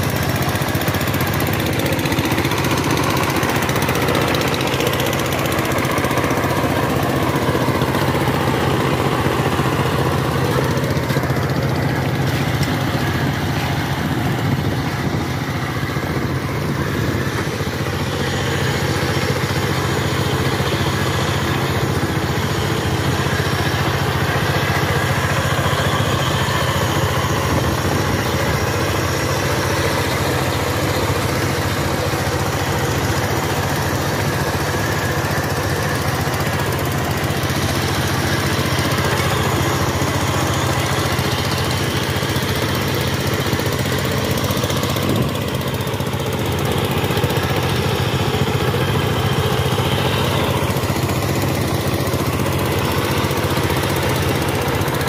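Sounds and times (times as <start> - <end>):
diesel engine running: 0.0 - 55.0
wheels churning water: 0.0 - 55.0.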